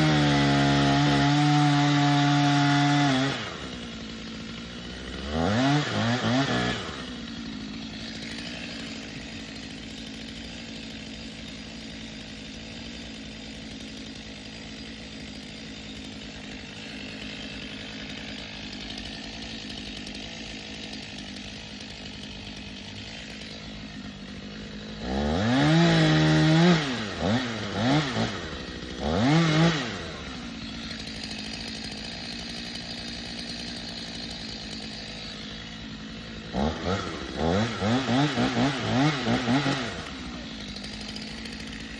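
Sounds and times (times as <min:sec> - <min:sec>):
chainsaw idling and revving: 0:00.0 - 0:41.9.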